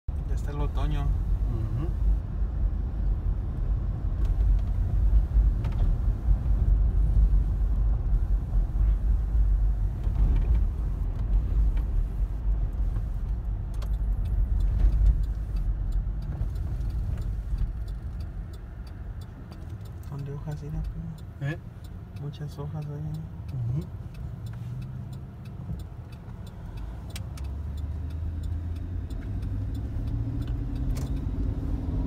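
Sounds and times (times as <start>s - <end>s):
car cabin road and engine rumble: 0.1s - 32.0s.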